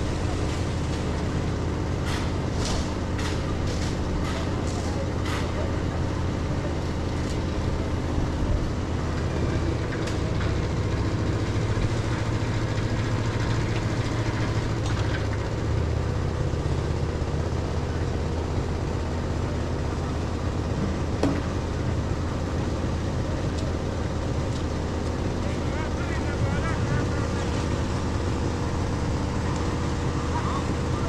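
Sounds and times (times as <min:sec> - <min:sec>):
machinery engine droning: 0:00.0 - 0:31.0.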